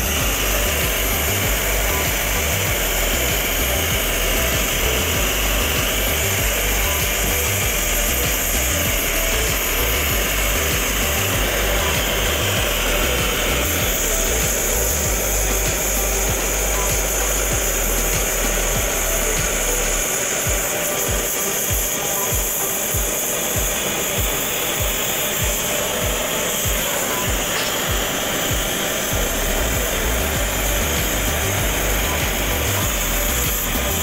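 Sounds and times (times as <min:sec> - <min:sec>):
gas torch hissing: 0:00.0 - 0:34.0.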